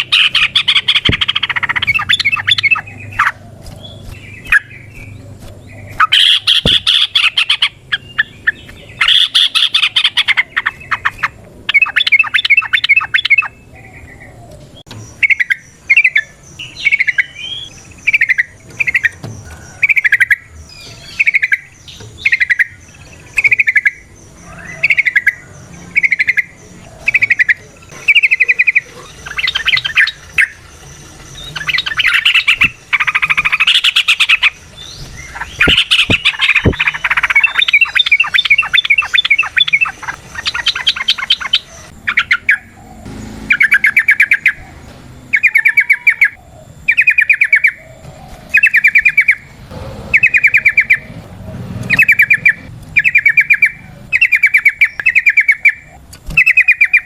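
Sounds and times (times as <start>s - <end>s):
bird whistled notes: 0.0s - 14.3s, 14.9s - 42.8s, 43.4s - 49.5s, 50.1s - 51.2s, 51.9s - 57.0s
bird chattering trills: 0.0s - 57.0s.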